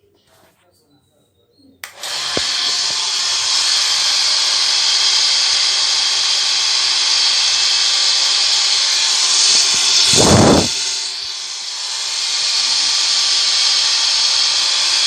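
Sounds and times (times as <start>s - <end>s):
electric power tool whirring: 1.8s - 15.0s.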